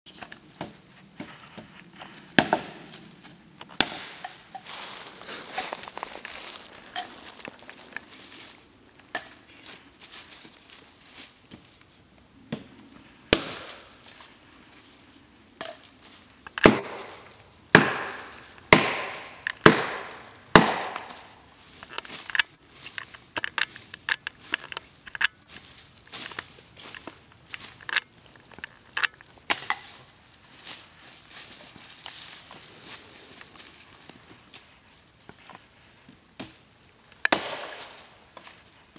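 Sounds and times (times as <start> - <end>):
dry branches cracking and snapping: 0.1 - 10.6, 15.6 - 34.7, 37.1 - 38.8
dry leaves rustling: 0.1 - 12.0, 12.9 - 35.8, 36.5 - 38.9.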